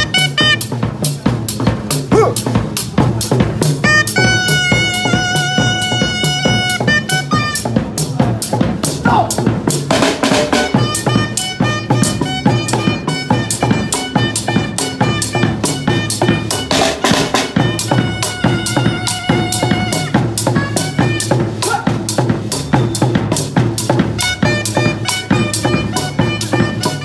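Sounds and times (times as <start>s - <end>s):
pitched melody and bass line: 0.0s - 27.0s
snare and bass drum beat: 0.0s - 27.0s.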